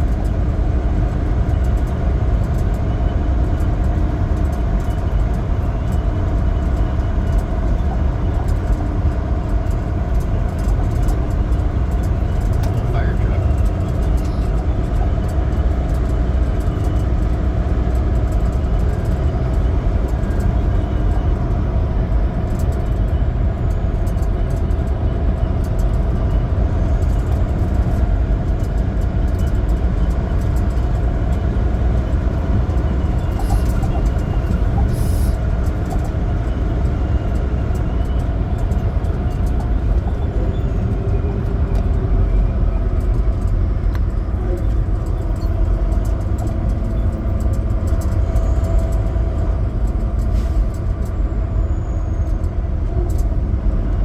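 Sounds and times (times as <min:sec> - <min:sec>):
road noise: 0:00.0 - 0:54.0
truck diesel engine rumble: 0:00.0 - 0:54.0.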